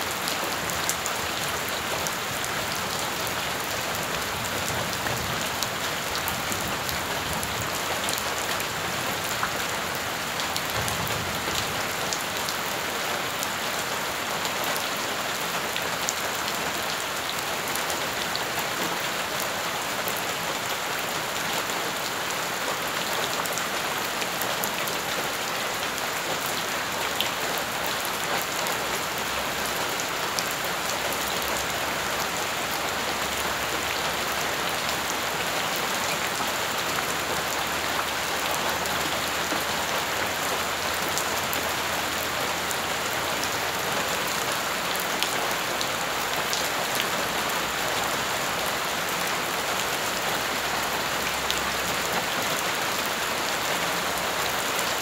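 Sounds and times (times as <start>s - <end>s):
rain falling on gravel: 0.0s - 55.0s.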